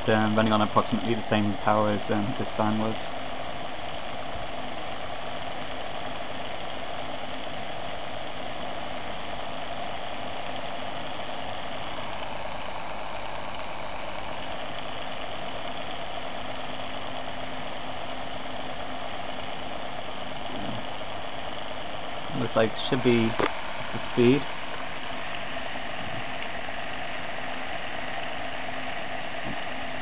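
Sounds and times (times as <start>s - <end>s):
fan air rush: 0.0s - 30.0s
motor whirring hum: 0.0s - 30.0s.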